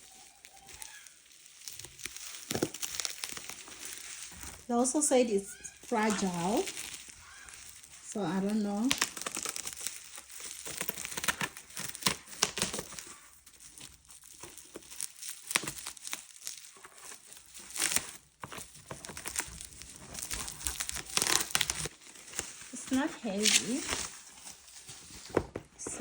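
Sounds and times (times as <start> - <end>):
packaging crinkling and tearing: 0.0 - 25.7.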